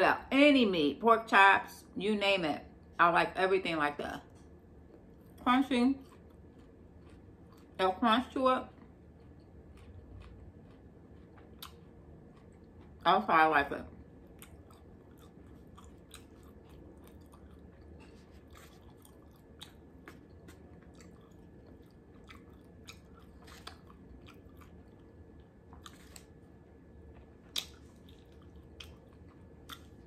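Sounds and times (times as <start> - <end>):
crunchy chewing with mouth clicks: 4.3 - 13.2, 13.8 - 30.0.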